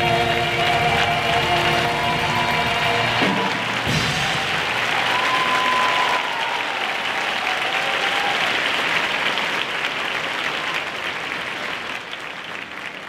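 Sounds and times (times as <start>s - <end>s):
large audience applauding: 0.0s - 13.0s.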